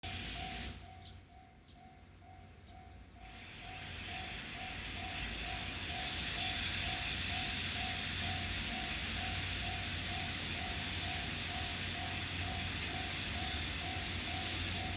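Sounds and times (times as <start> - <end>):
train rushing hiss: 0.0 - 1.0, 3.2 - 14.9.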